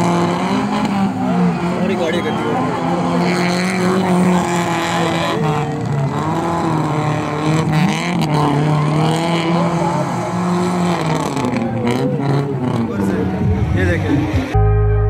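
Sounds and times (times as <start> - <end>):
car engine revving hard: 0.0 - 14.6
crowd voices: 0.0 - 15.0.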